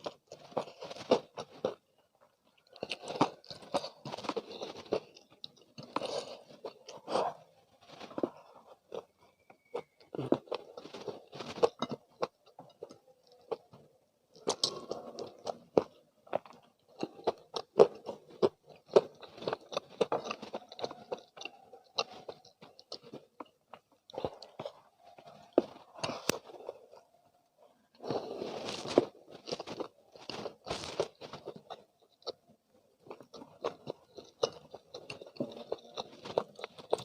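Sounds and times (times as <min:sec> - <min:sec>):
chewing and crunching food: 0:00.0 - 0:37.0.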